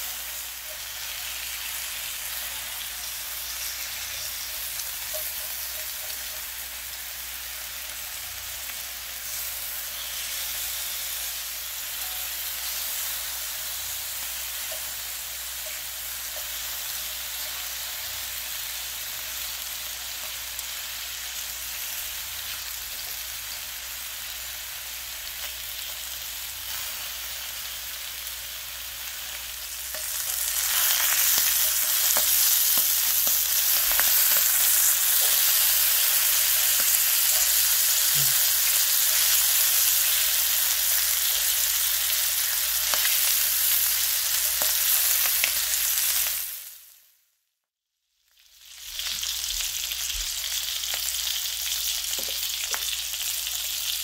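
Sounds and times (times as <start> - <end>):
bacon sizzling in a skillet: 0.0 - 47.2, 48.2 - 54.0
metal tongs turning bacon: 0.1 - 23.6, 25.3 - 46.4.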